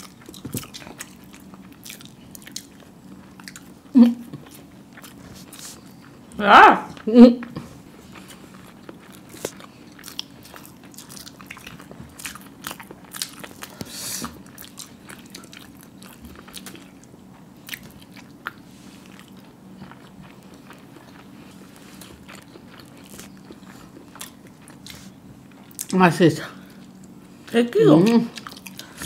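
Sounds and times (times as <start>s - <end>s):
chewing and wet mouth sounds: 0.0s - 26.0s, 26.6s - 29.0s
faint low hum: 0.0s - 29.0s.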